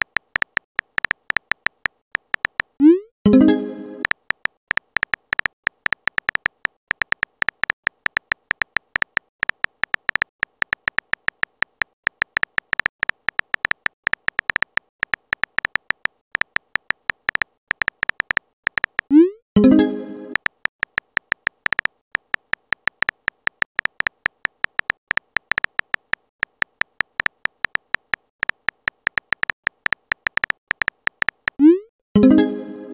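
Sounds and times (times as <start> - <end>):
phone keyboard typing clicks: 0.0 - 3.0, 4.0 - 19.3, 20.3 - 31.8.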